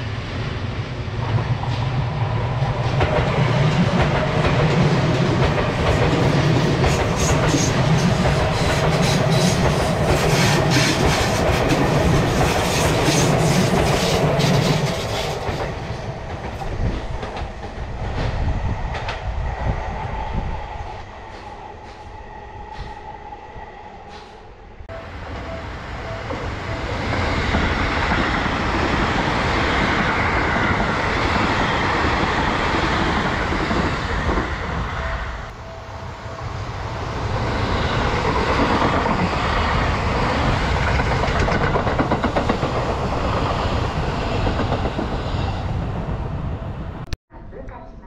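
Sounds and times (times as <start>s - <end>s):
electric train passing: 0.0s - 47.1s.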